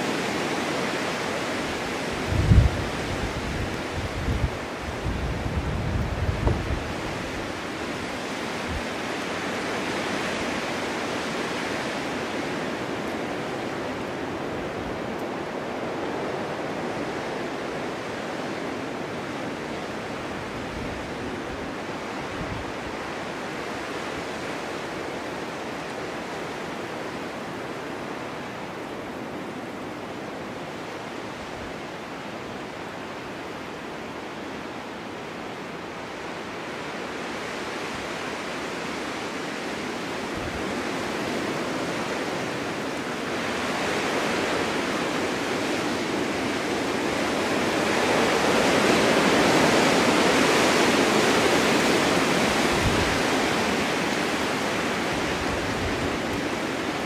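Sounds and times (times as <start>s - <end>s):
snowstorm wind rushing: 0.0s - 57.0s.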